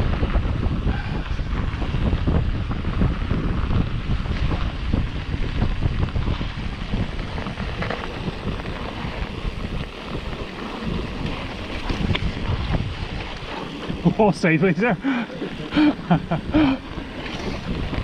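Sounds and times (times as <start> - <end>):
bike rumbling and knocking: 0.0 - 18.0
wind buffeting microphone: 0.0 - 18.0.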